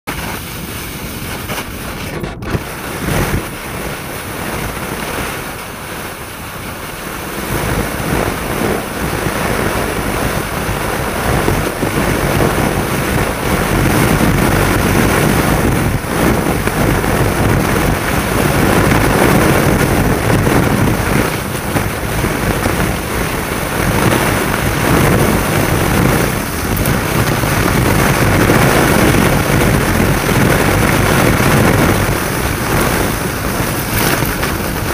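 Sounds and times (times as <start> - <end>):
ski running over packed snow: 0.1 - 34.9
wind on microphone: 0.1 - 34.9.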